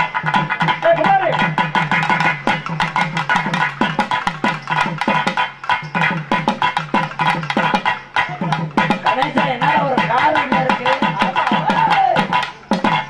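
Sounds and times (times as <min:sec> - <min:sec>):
fast barrel drum strokes: 0:00.0 - 0:13.0
held melodic tone: 0:00.0 - 0:13.0.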